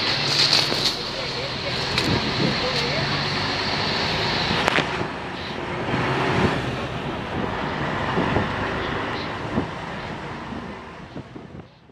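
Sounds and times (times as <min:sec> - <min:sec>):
road and wind noise: 0:00.0 - 0:11.9
vehicle engine hum: 0:00.0 - 0:11.9.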